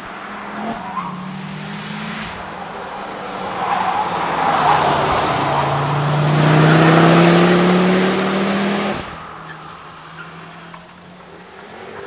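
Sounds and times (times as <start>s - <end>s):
car engine accelerating: 0.0s - 12.0s
tyre and road noise: 0.0s - 12.0s.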